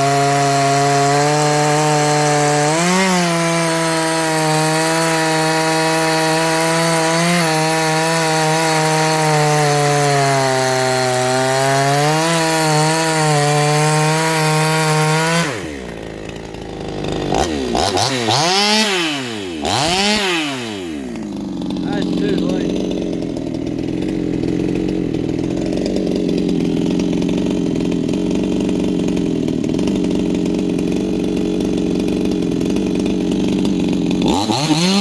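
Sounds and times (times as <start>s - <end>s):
chainsaw cutting and revving: 0.0s - 35.0s.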